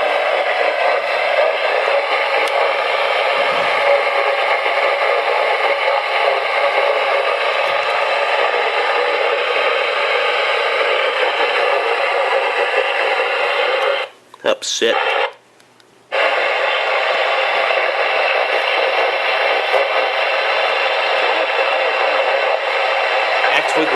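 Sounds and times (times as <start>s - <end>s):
radio static hiss: 0.0s - 15.4s, 16.1s - 23.9s.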